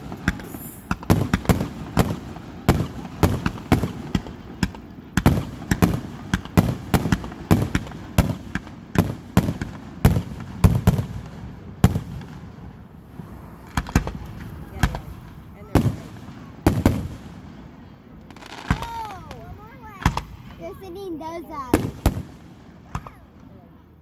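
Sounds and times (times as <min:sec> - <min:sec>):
fireworks bursting: 0:00.0 - 0:23.9.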